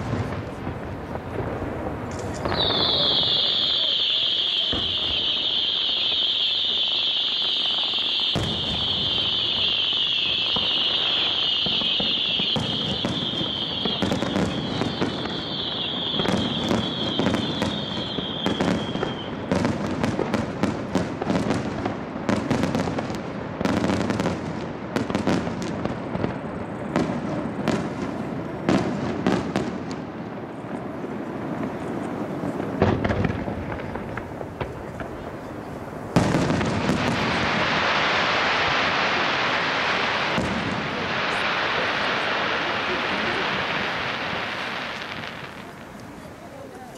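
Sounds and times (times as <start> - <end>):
fireworks bursting with bangs: 0.0 - 46.9.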